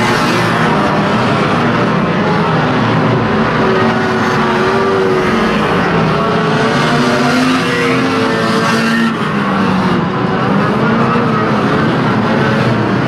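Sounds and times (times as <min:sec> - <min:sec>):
racing car engines revving: 0:00.0 - 0:13.0.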